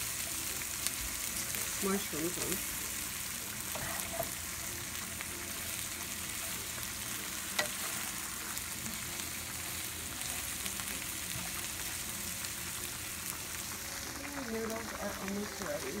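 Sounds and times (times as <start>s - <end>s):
vegetables sizzling in a frying pan: 0.0s - 16.0s.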